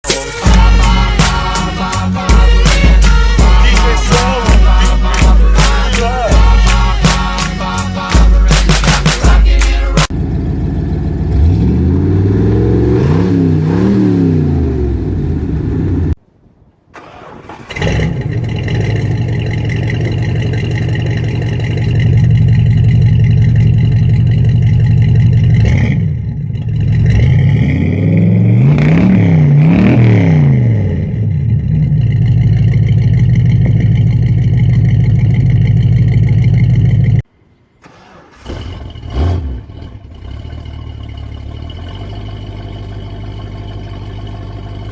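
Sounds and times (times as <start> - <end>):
car engine idling and revving: 0.1 - 16.2, 17.0 - 44.9.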